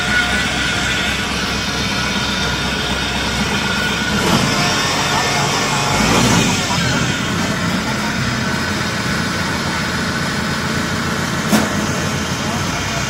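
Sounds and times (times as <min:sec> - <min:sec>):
tracked crawler engine running: 0:00.0 - 0:13.0.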